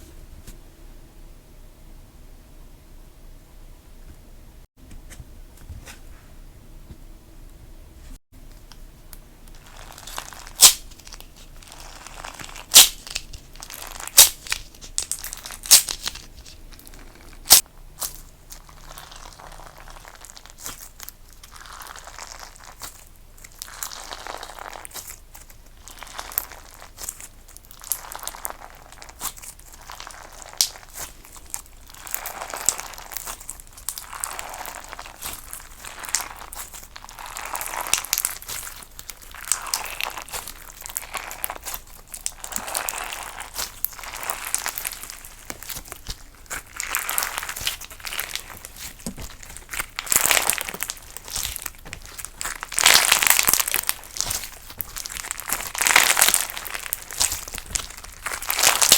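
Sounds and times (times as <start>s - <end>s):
slime crackling and squishing: 9.4s - 58.9s.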